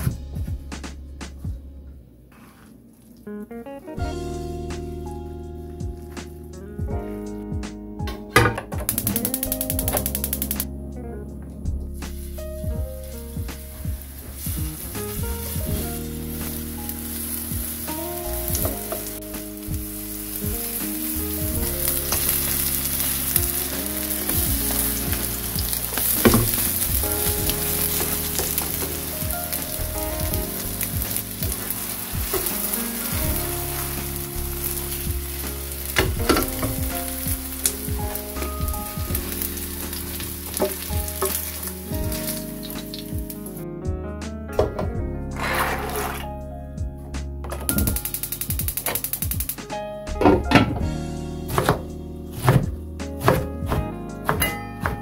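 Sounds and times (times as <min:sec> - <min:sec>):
background music: 0:00.0 - 0:02.1, 0:03.3 - 0:55.0.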